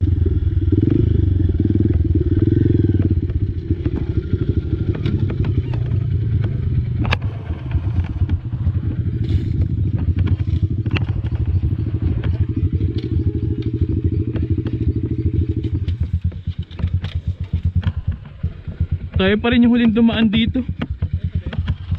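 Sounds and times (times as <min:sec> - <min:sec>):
dirt bike engine running: 0:00.0 - 0:21.9
sharp clicks and clatter: 0:01.6 - 0:21.9.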